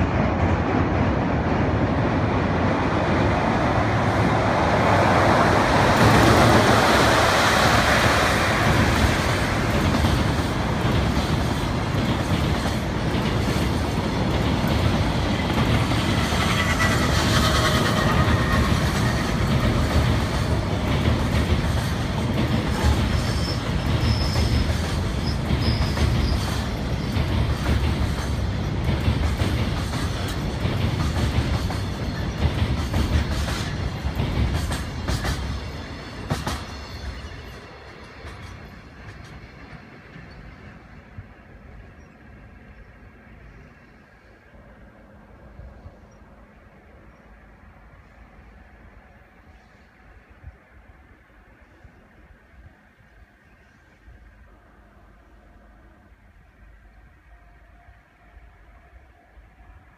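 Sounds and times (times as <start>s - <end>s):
freight train rumbling over bridge: 0.0s - 59.9s.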